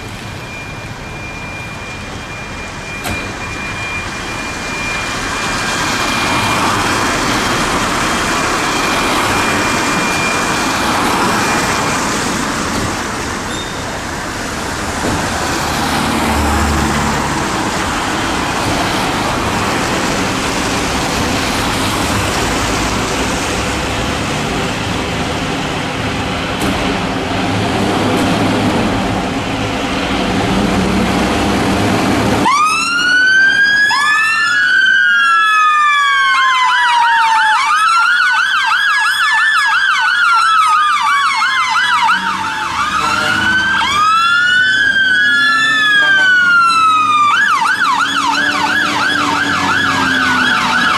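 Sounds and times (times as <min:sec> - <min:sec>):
emergency sirens wailing: 0:00.0 - 0:50.9
traffic and engine noise: 0:00.0 - 0:50.9.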